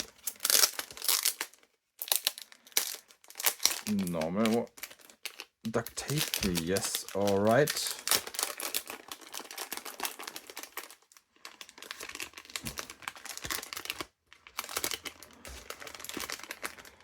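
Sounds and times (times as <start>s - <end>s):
packaging crinkling and crackling: 0.0s - 17.0s
tape being peeled: 0.0s - 17.0s.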